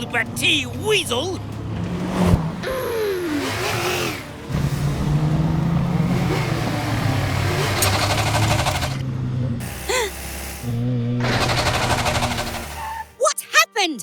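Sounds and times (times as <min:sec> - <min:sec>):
cartoon truck engine drone: 0:00.0 - 0:13.2.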